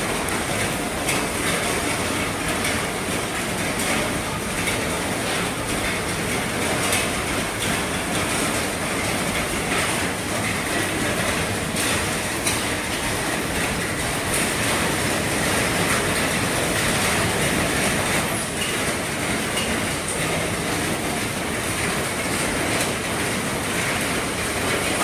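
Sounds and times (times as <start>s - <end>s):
heavy rain on a roof: 0.0s - 25.0s.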